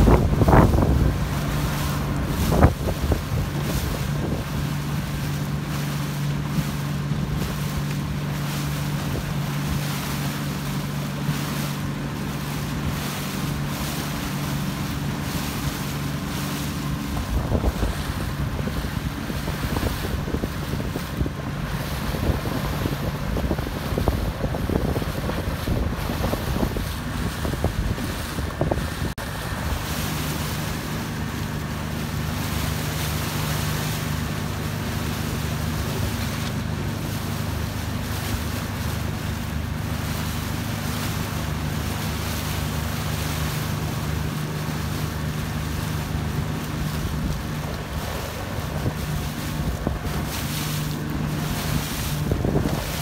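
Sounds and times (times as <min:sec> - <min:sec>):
motorboat engine humming: 0:00.0 - 0:53.0
water splashing past hull: 0:00.0 - 0:53.0
wind buffeting microphone: 0:00.0 - 0:53.0.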